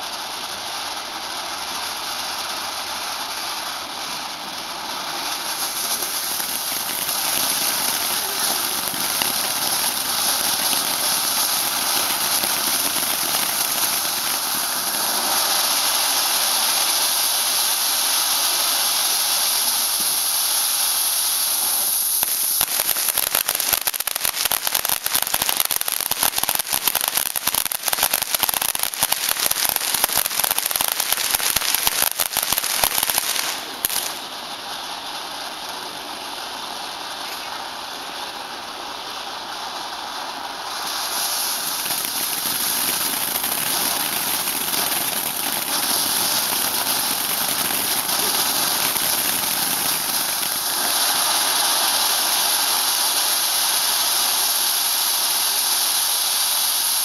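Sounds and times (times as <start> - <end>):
firework rapid crackling: 0.0 - 57.0
firework rushing hiss: 0.0 - 57.0.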